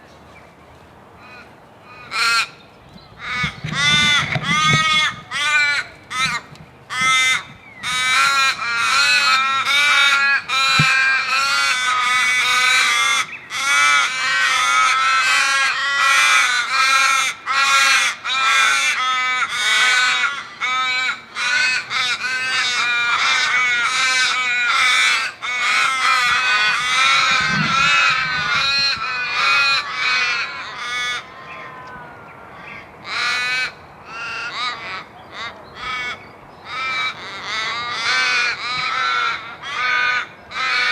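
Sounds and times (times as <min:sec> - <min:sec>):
crows cawing: 0:01.2 - 0:02.6, 0:03.2 - 0:32.0, 0:32.6 - 0:40.9.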